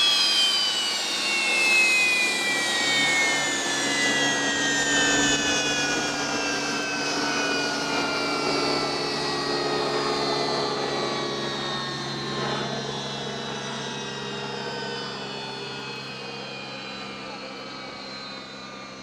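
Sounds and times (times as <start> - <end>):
jet engine winding down: 0.0 - 19.0.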